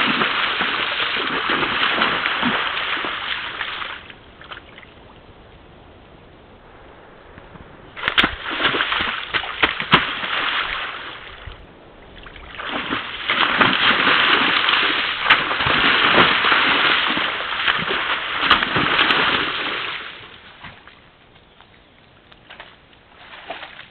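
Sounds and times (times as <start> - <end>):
moose splashing through water: 0.0 - 5.3, 7.2 - 21.1, 22.4 - 23.9.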